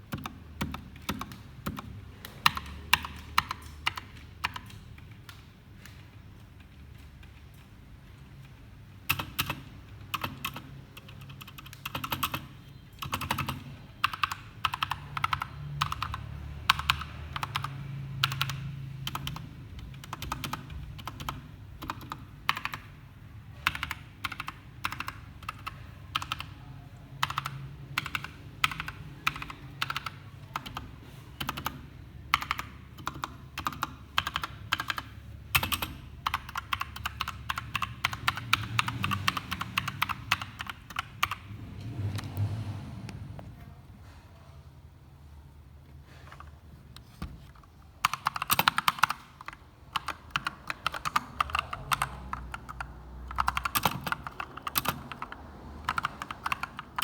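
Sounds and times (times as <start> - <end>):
keyboard typing clicks: 0.0 - 23.0, 23.6 - 26.6, 27.2 - 42.4, 46.4 - 57.0.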